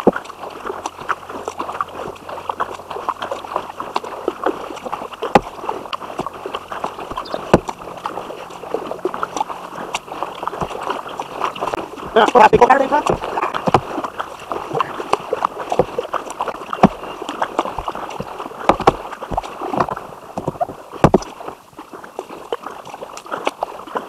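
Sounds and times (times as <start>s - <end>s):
paddle strokes splashing: 0.0s - 24.0s
water dripping: 0.0s - 24.0s.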